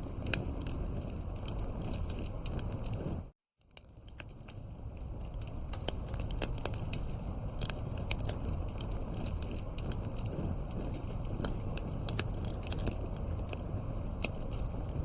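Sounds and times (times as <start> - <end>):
campfire crackling and popping: 0.0 - 15.0
low rumble of flame: 0.0 - 15.0.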